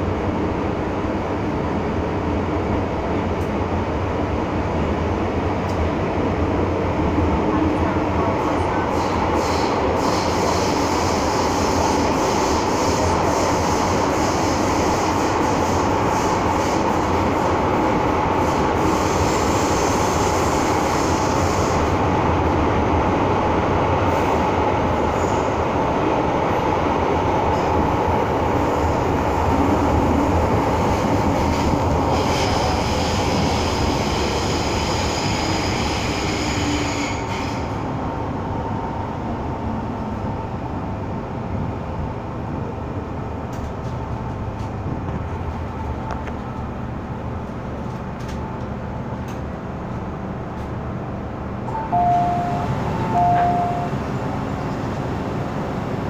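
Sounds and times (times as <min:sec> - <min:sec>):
metro car rumble and hum: 0:00.0 - 0:56.0.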